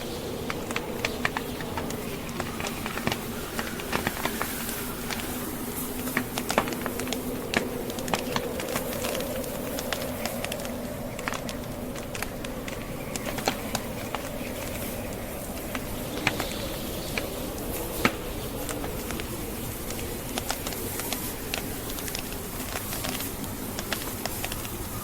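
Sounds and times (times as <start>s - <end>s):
blizzard wind rushing: 0.0s - 25.0s
logs crackling and popping: 0.0s - 25.0s.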